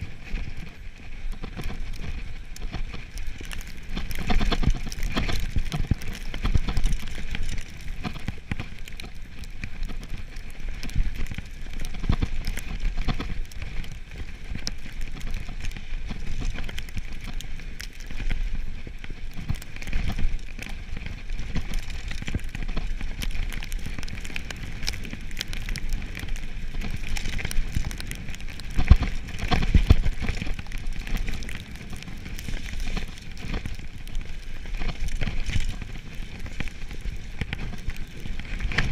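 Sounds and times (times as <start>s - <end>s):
bike tyres rattling on snow: 0.0s - 38.9s
wind on microphone: 0.0s - 38.9s.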